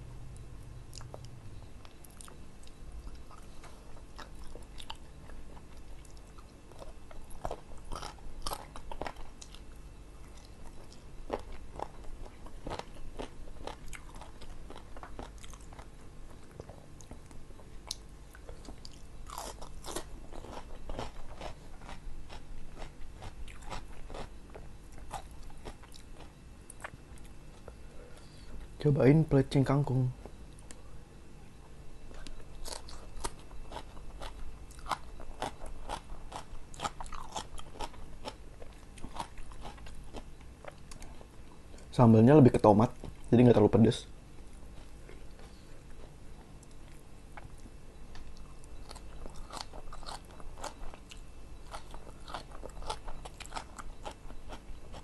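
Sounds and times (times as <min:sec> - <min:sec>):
chewing and biting chicken: 0:01.9 - 0:27.8, 0:32.2 - 0:41.9, 0:44.4 - 0:55.0.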